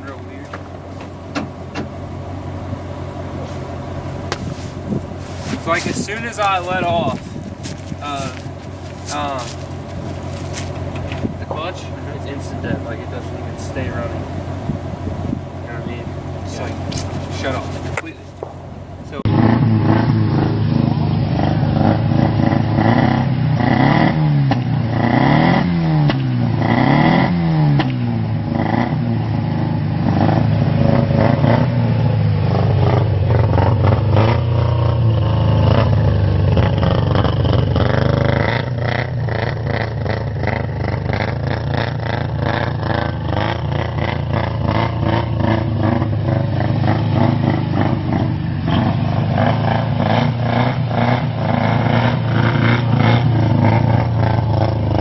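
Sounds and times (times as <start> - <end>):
engine popping and banging: 0.0 - 55.0
rotary engine revving: 0.0 - 55.0.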